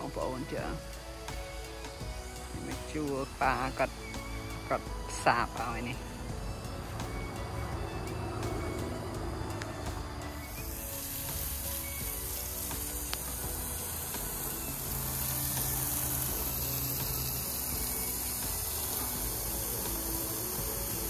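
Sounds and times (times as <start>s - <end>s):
garden hose spraying water: 0.0s - 21.0s.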